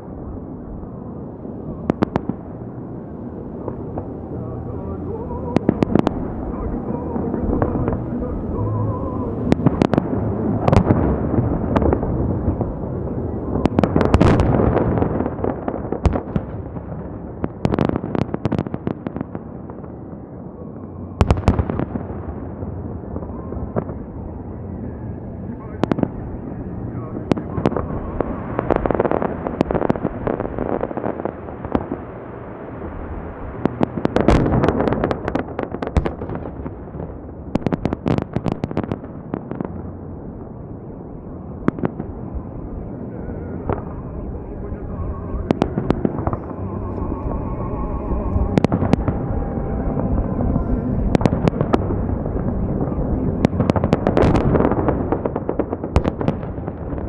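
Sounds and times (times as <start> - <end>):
rolling rumble of echoing booms: 0.0 - 19.9, 21.2 - 57.0
fireworks cracking and banging: 0.0 - 20.0, 25.2 - 57.0.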